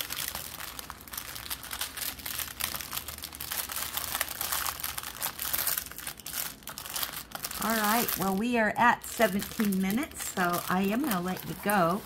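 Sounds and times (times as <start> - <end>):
thin plastic crinkling: 0.0 - 12.0.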